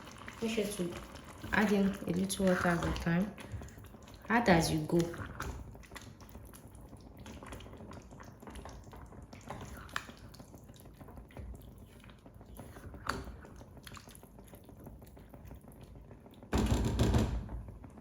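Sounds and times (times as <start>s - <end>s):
water dripping in pot of rice: 0.0s - 16.6s.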